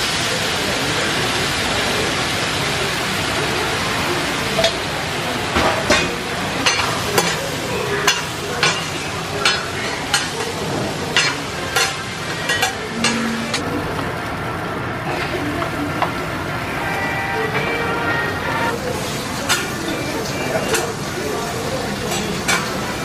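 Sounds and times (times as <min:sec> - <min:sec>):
food sizzling on griddle: 0:00.0 - 0:13.1, 0:14.5 - 0:23.0.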